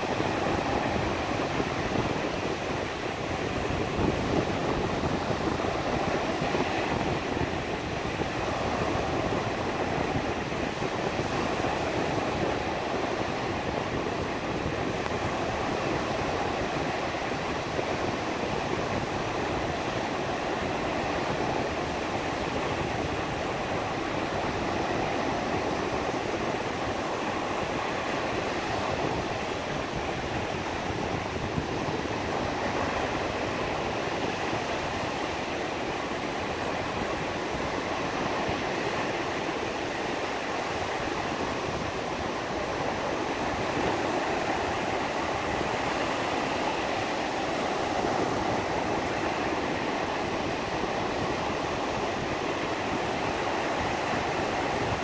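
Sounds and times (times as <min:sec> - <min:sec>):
surf washing up a beach: 0:00.0 - 0:55.0.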